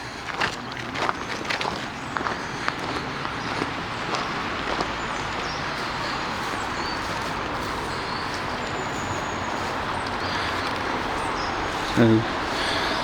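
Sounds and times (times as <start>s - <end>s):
small birds chirping: 0.3s - 13.0s.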